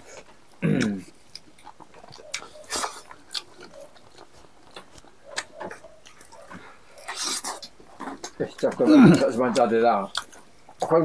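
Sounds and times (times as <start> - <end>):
chewing and lip-smacking: 0.0 - 11.0.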